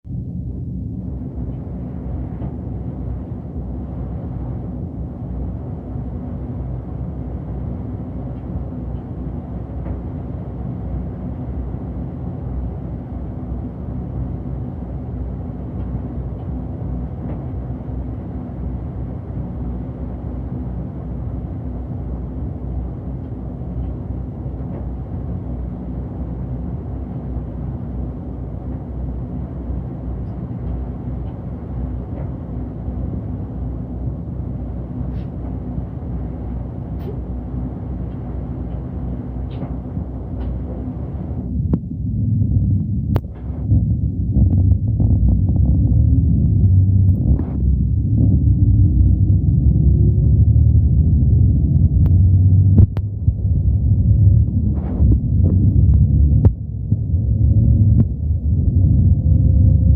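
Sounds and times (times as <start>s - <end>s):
bus engine drone: 0.0s - 59.9s
low road rumble: 0.0s - 59.9s.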